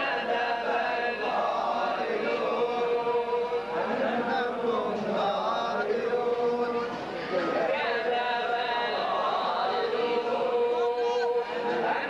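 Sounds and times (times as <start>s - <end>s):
crowd of men chanting: 0.0s - 12.0s.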